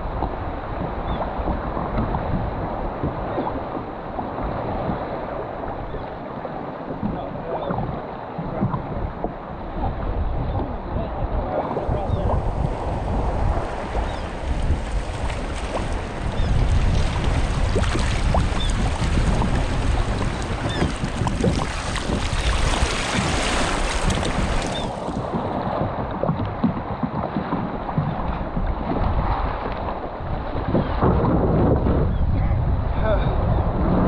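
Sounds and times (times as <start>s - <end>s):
water splashing around boat: 0.0s - 32.0s
wind buffeting microphone: 0.0s - 34.0s.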